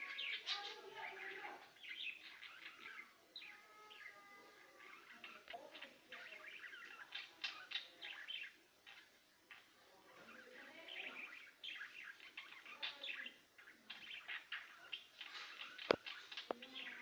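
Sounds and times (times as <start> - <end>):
finches chirping and twittering: 0.0 - 17.0.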